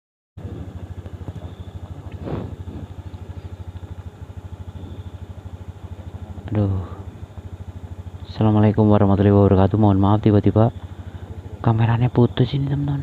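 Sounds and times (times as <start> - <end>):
small engine idling: 0.4 - 13.0.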